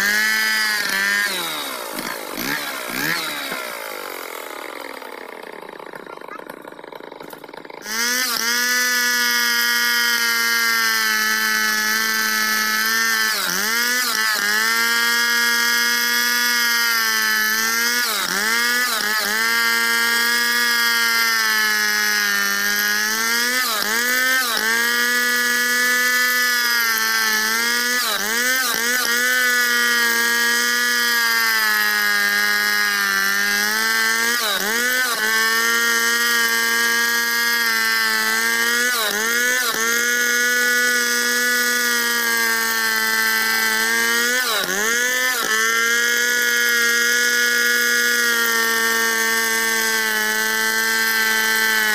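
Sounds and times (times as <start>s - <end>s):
chainsaw cutting log at full revs: 0.0s - 51.9s.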